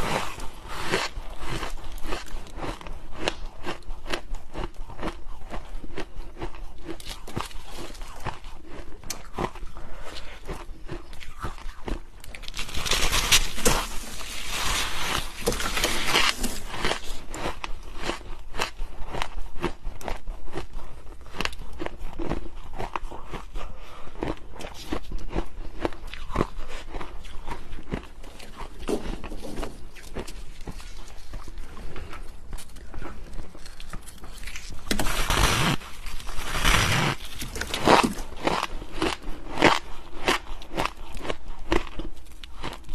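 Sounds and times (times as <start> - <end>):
crunching frost being chewed: 0.0 - 42.9.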